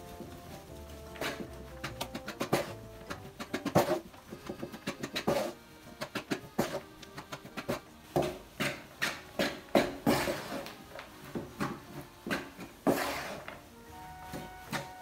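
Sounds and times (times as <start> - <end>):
rice paddle tapping and scraping: 0.0 - 15.0.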